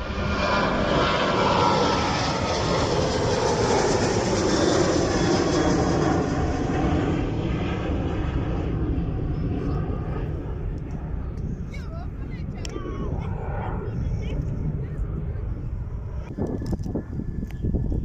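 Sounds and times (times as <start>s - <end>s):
aircraft engine passing by: 0.0s - 18.0s.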